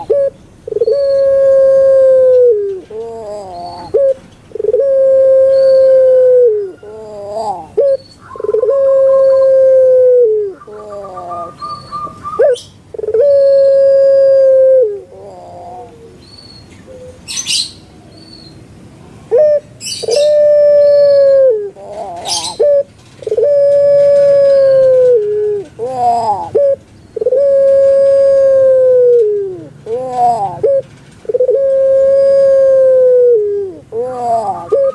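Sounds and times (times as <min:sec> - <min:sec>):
dove cooing: 0:00.0 - 0:17.6, 0:19.3 - 0:34.9.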